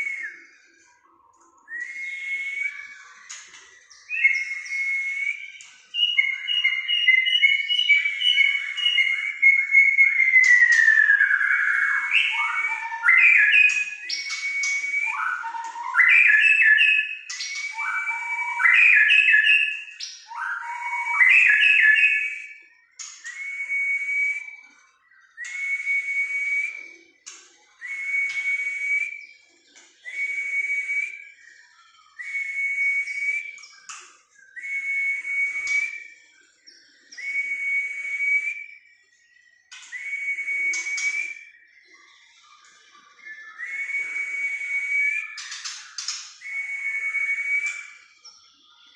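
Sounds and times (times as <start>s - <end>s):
whistled bird song: 0.0s - 48.9s.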